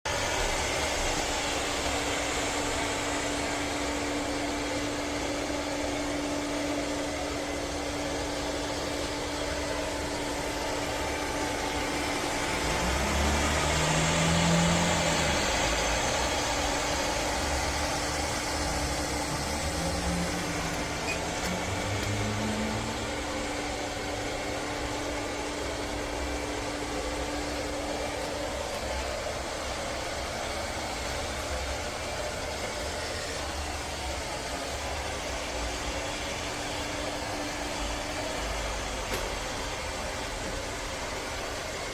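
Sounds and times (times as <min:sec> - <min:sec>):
robot vacuum cleaner whirring: 0:00.1 - 0:41.9.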